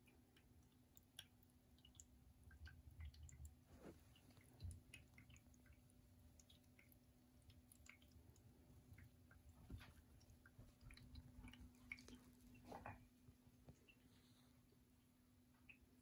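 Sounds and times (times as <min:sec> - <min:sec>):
faint scattered ticks and clicks: 0:00.0 - 0:16.0.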